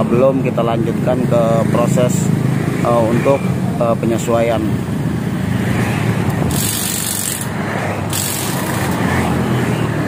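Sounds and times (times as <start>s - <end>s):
traffic engines running: 0.0s - 10.0s.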